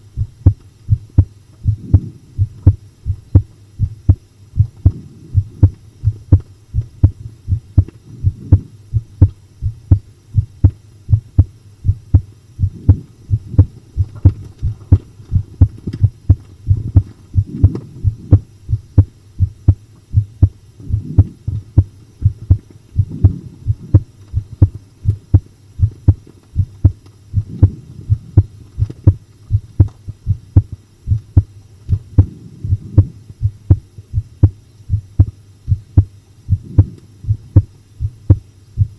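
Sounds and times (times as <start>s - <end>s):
faint low hum: 0.0s - 38.9s
heartbeat thumps: 0.0s - 38.9s.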